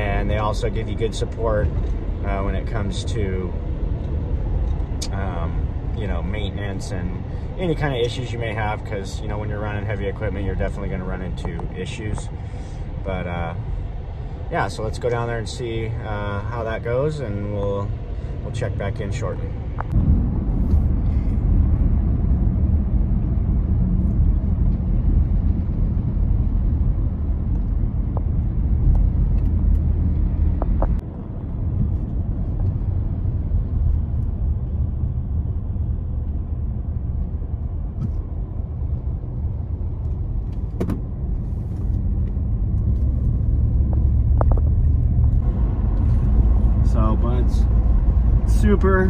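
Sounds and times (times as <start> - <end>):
car road noise and engine hum: 0.0 - 49.0.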